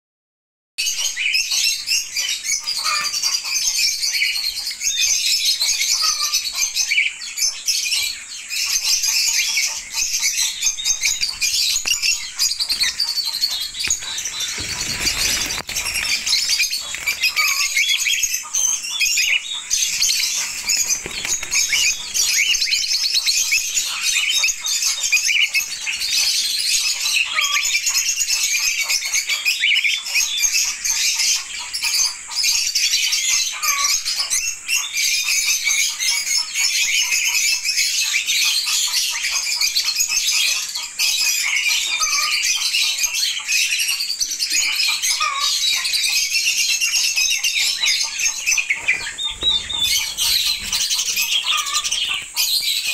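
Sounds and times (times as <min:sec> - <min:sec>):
parrots chirping and chattering: 0:00.8 - 0:52.9.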